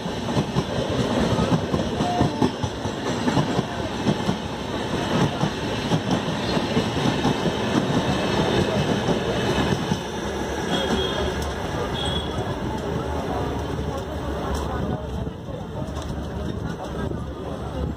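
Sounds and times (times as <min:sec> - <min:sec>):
passenger train rumble: 0:00.0 - 0:17.9.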